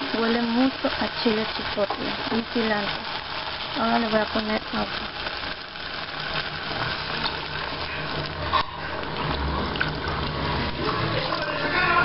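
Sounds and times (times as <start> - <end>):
water pouring into a pan: 0.0 - 12.0
water splashing in a pan: 0.0 - 12.0.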